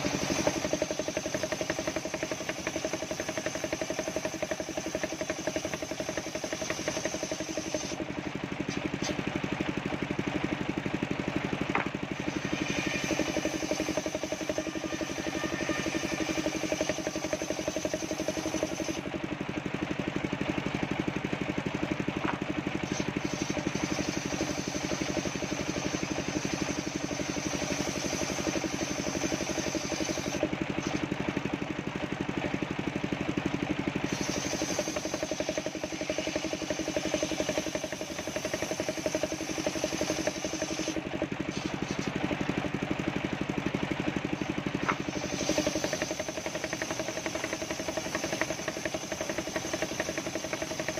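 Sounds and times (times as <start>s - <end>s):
circular sawmill cutting wood: 0.0s - 50.9s.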